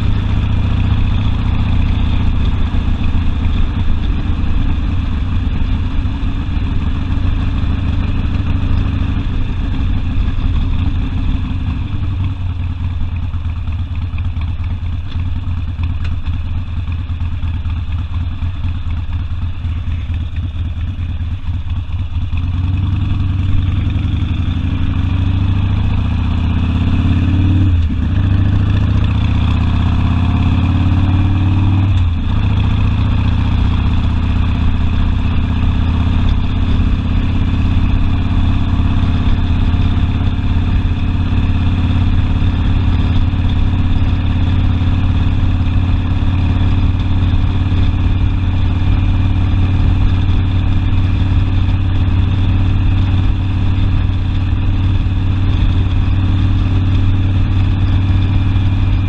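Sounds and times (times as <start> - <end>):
gear shift pitch drop: 0.0 - 59.0
motorcycle engine revving: 0.0 - 59.0.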